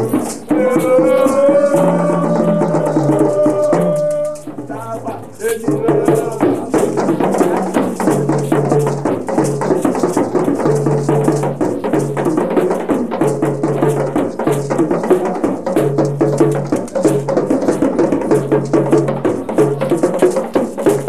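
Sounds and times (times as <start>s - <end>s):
percussion-driven dance music: 0.0s - 21.0s.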